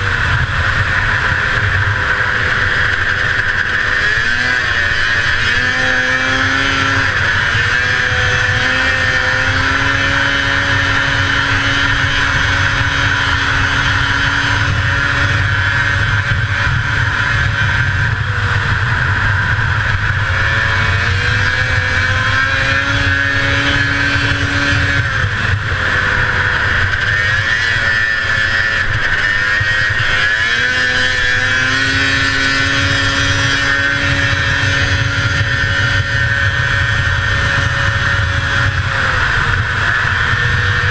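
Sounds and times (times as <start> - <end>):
snowmobile engine running hard: 0.0 - 40.9
wind and track noise: 0.0 - 40.9.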